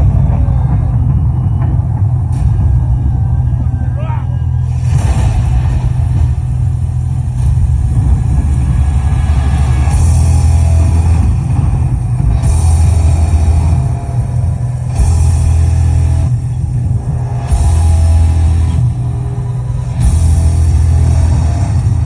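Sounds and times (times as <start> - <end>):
hard rock band playing live: 0.0 - 22.0.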